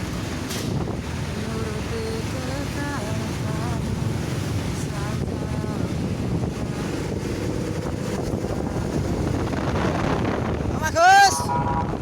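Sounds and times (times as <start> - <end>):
truck engines rumbling: 0.0 - 12.0
wind buffeting microphone: 0.0 - 12.0.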